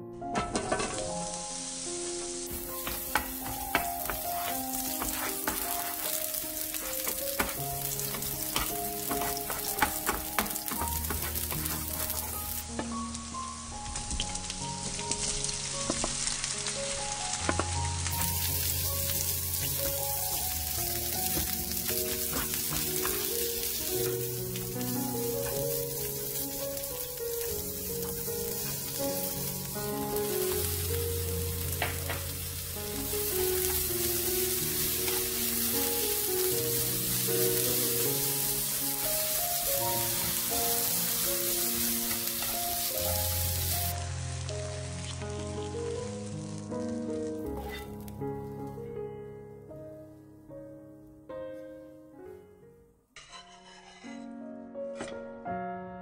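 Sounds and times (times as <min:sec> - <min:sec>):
background music: 0:00.0 - 0:53.0, 0:54.0 - 0:56.0
vegetables sizzling in oil: 0:00.4 - 0:48.6.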